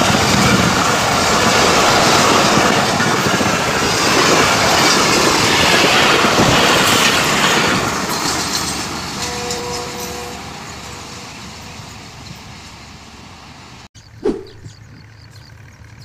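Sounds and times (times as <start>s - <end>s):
train coaches rushing past: 0.0s - 14.7s.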